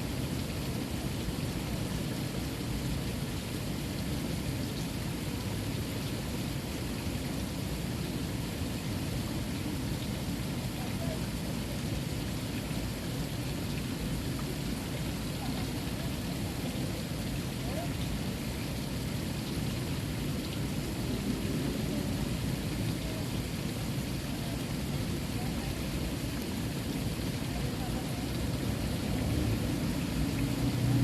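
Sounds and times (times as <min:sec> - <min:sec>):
water fountain splashing: 0:00.0 - 0:31.0.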